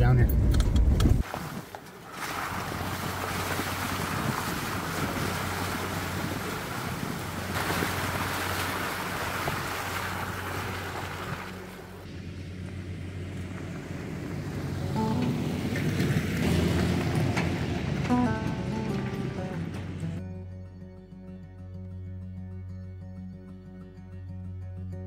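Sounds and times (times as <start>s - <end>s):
engine humming at low speed: 0.0s - 25.0s.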